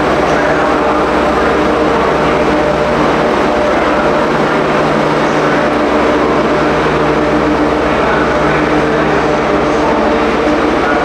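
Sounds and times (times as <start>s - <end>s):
train engine drone: 0.0s - 11.0s.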